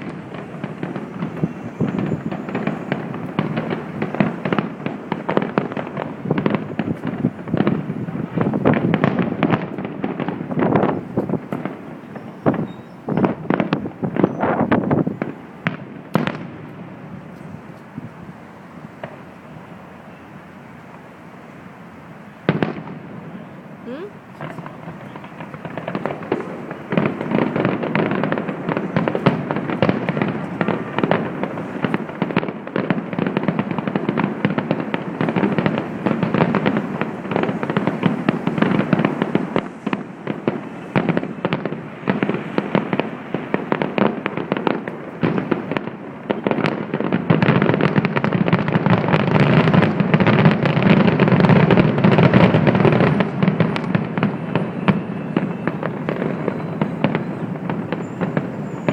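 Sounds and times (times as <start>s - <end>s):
fireworks bangs and crackles: 0.0s - 58.9s.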